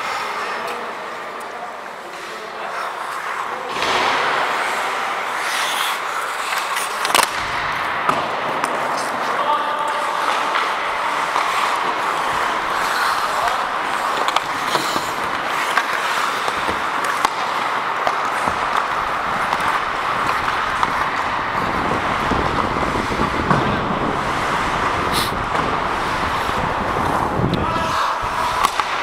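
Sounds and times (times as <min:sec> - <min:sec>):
hockey sticks and puck clicking: 0:00.0 - 0:29.0
skate blades scraping ice: 0:00.0 - 0:29.0.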